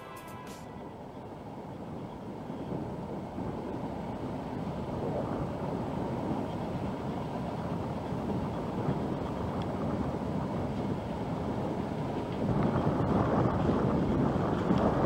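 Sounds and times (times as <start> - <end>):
freighter engine rumble: 0.0 - 15.0.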